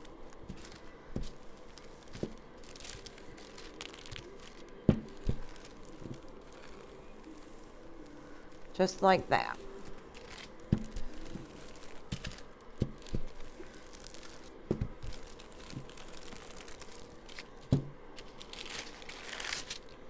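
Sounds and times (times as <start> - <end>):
hands rolling clay: 0.0 - 20.0.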